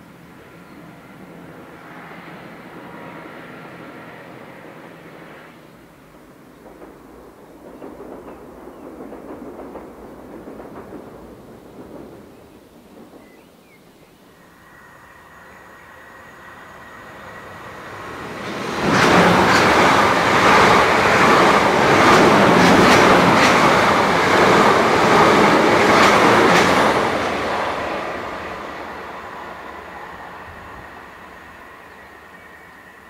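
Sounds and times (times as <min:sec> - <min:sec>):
train wheels rushing on rail: 0:00.0 - 0:33.0.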